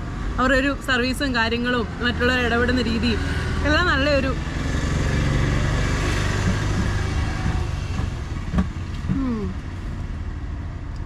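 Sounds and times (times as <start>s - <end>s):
vehicle engine passing: 0.0s - 10.4s.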